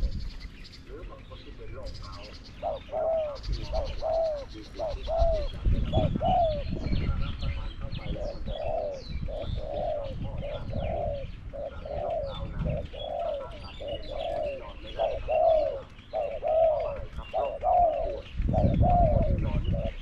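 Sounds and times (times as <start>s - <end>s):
doves cooing: 0.0s - 20.0s
small birds chirping: 0.0s - 20.0s.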